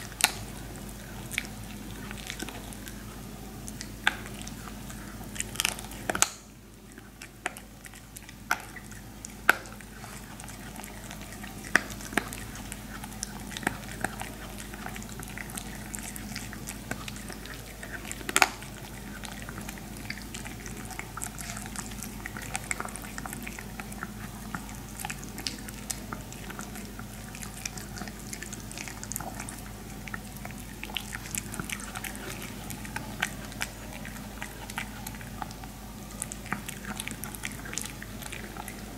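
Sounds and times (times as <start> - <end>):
dog chewing and crunching: 0.0 - 38.9
faint steady hum: 0.0 - 38.9.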